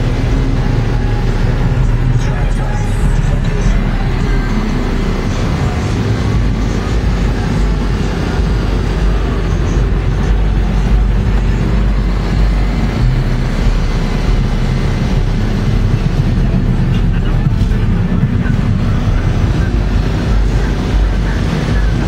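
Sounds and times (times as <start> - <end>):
loud low rumble: 0.0 - 22.0.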